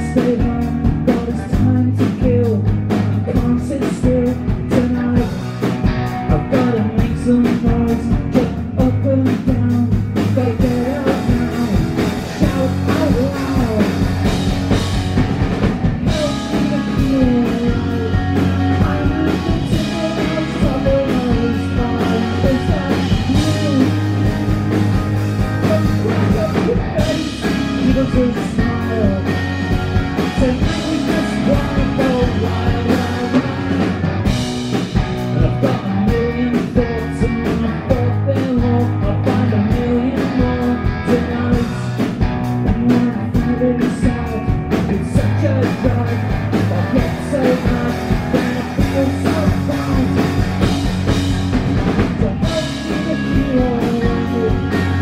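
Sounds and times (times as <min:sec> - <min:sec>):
male lead vocal: 0:00.0 - 0:14.9, 0:16.0 - 0:51.2, 0:52.0 - 0:55.0
bass guitar: 0:00.0 - 0:55.0
drums with steady beat: 0:00.0 - 0:55.0
strummed electric guitar: 0:00.0 - 0:55.0.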